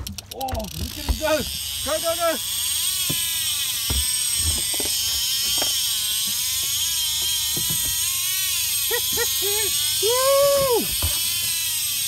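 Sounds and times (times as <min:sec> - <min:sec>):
fishing reel drag whining: 0:00.0 - 0:12.0.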